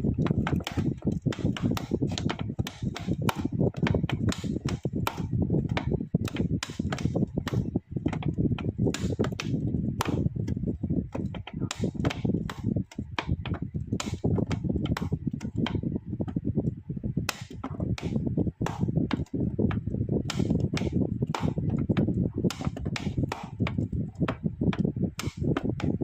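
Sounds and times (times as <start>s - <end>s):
continuous low noise: 0.0s - 26.0s
sharp knocks and clicks: 0.0s - 26.0s.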